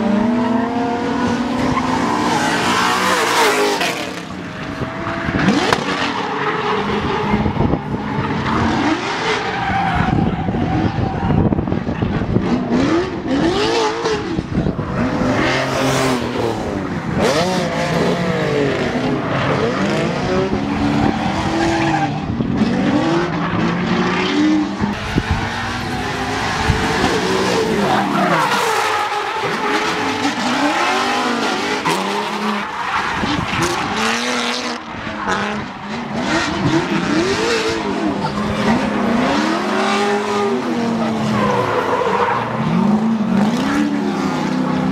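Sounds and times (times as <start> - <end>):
car engines revving: 0.0 - 44.9
tyres squealing and skidding: 0.6 - 23.2, 24.3 - 44.9.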